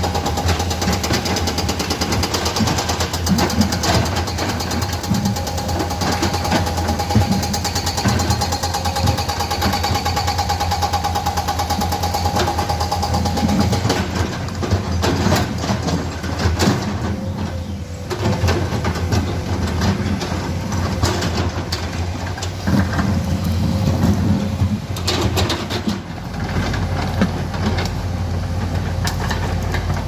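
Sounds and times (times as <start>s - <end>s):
excavator diesel engine: 0.0s - 30.0s
fast clatter and whine: 0.0s - 30.0s.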